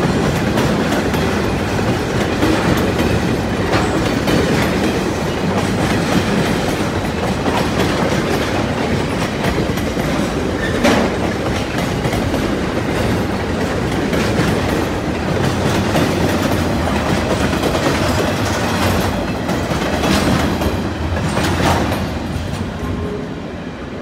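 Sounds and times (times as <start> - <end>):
train wheels clattering over rail joints: 0.0 - 22.8.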